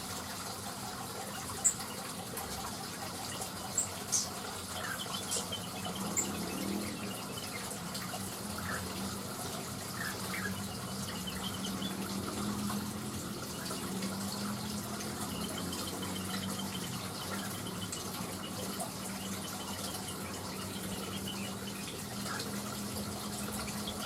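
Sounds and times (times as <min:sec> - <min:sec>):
running water: 0:00.0 - 0:24.0
faint bird chirps: 0:03.1 - 0:24.0.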